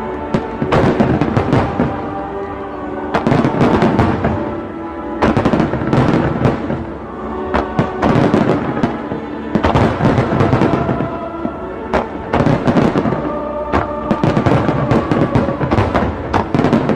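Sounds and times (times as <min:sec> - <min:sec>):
background music: 0:00.0 - 0:16.9
fireworks bursting: 0:00.0 - 0:16.9.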